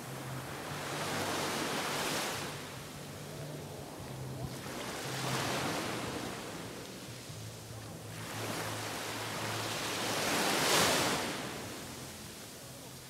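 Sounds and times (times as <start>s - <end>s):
small waves breaking on beach: 0.0s - 12.9s.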